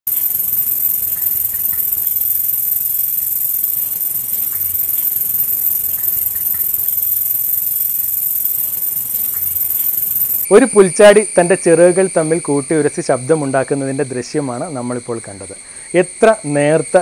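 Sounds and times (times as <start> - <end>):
katydid stridulating: 0.0 - 17.0.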